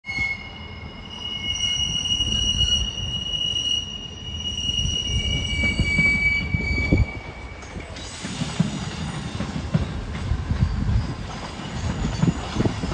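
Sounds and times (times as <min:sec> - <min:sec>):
train wheels squealing: 0:00.0 - 0:12.9
low train rumble: 0:00.1 - 0:12.9.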